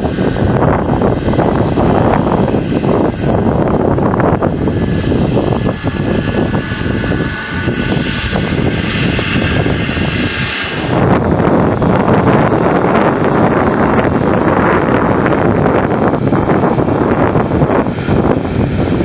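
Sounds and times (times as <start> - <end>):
faint high engine whine: 0.0 - 19.0
jet engines rumbling: 0.0 - 19.0.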